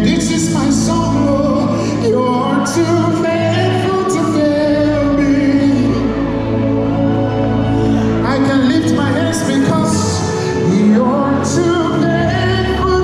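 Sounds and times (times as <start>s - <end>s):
backing vocalists: 0.0s - 13.0s
lead singer: 0.0s - 13.0s
live gospel song with band: 0.0s - 13.0s.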